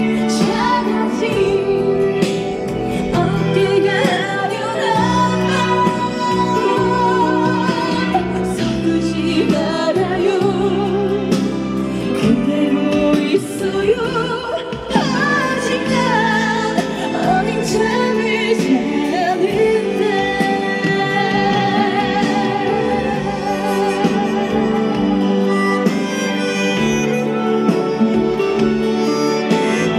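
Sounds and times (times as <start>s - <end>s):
instrumental accompaniment: 0.0s - 29.9s
woman singing a slow ballad: 0.0s - 29.9s.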